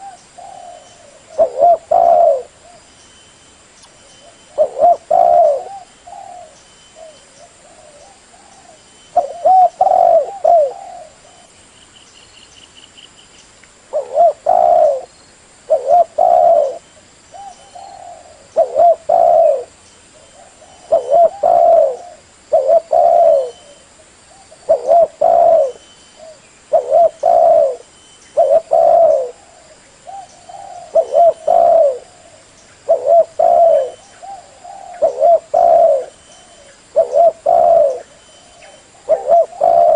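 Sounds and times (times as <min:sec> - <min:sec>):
dove cooing: 0:00.0 - 0:02.8, 0:04.2 - 0:11.5, 0:13.9 - 0:15.1, 0:15.7 - 0:39.9.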